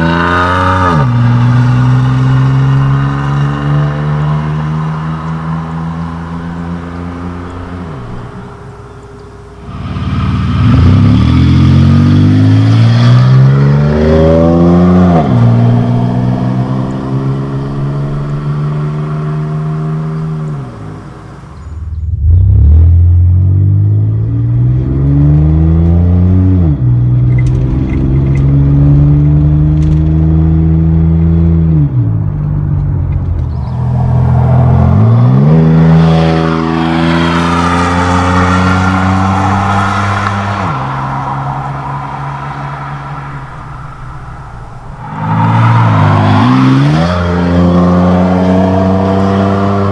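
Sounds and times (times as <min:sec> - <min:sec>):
car engine accelerating: 0:00.0 - 0:49.9.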